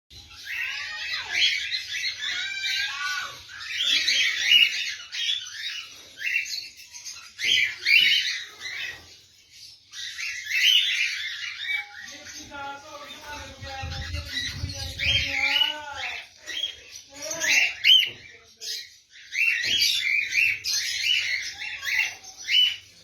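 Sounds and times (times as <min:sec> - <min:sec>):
lovebirds chattering and squawking: 0:00.1 - 0:23.0.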